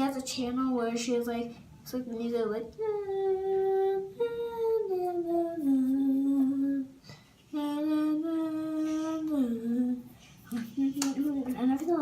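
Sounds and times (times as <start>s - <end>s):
girl singing: 0.0s - 12.0s.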